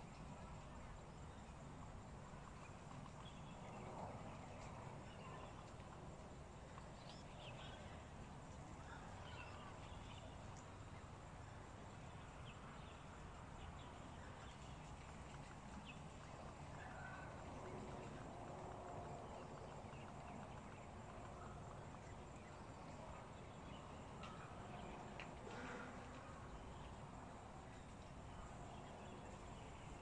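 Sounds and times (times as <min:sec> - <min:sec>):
low background noise: 0:00.0 - 0:30.0.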